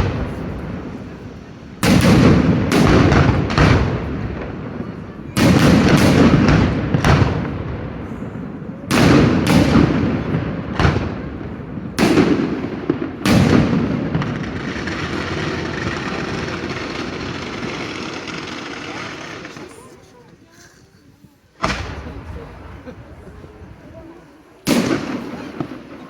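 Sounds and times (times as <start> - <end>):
fireworks bursting with echo: 0.0 - 20.3, 21.5 - 26.0.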